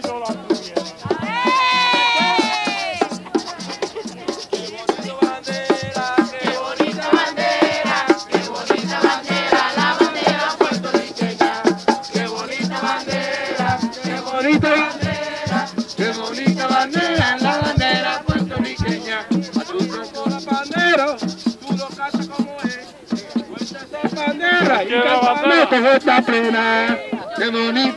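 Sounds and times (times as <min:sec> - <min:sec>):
group singing: 0:00.0 - 0:27.9
hand frame drums beating: 0:00.0 - 0:27.9.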